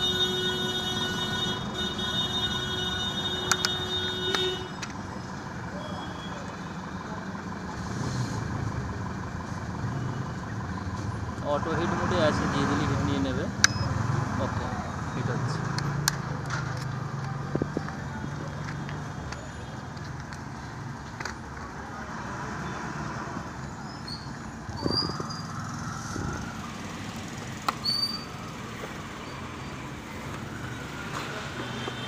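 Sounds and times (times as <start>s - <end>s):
low hum of distant traffic: 0.0s - 32.0s.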